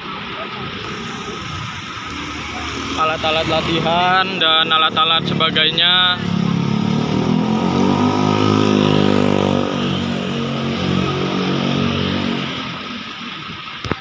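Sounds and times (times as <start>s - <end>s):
motorcycle passing by: 0.0s - 13.2s.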